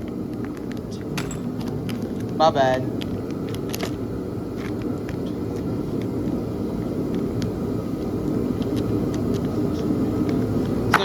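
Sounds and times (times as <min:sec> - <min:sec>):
heater roaring: 0:00.0 - 0:11.0.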